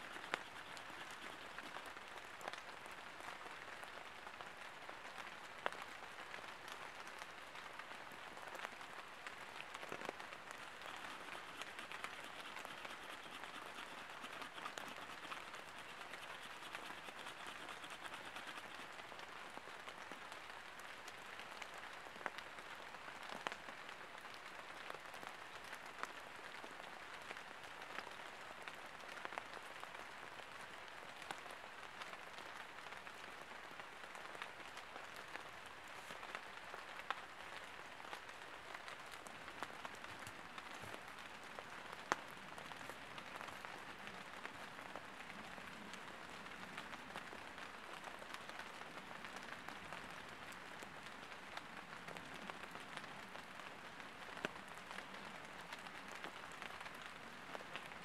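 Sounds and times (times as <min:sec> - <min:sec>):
rain pattering on leaves: 0:00.0 - 0:58.0.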